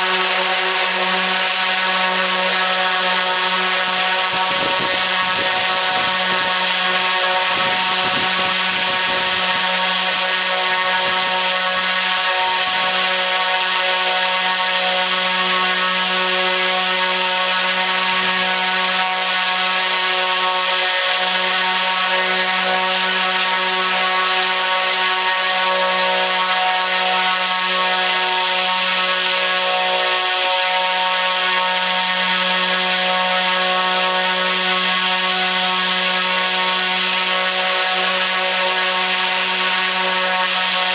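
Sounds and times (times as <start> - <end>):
propeller motor droning: 0.0 - 40.9.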